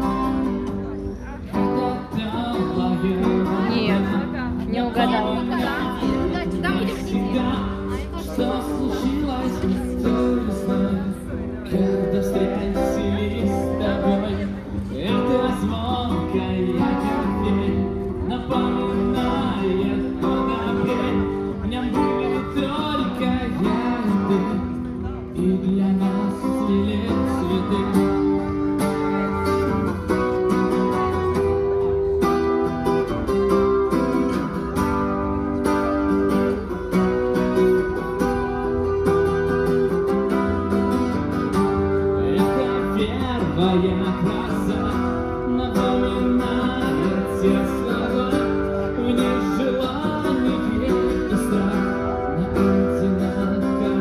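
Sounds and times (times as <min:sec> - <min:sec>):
man singing: 0:00.0 - 0:32.1, 0:35.9 - 0:54.0
strummed acoustic guitar: 0:00.0 - 0:54.0.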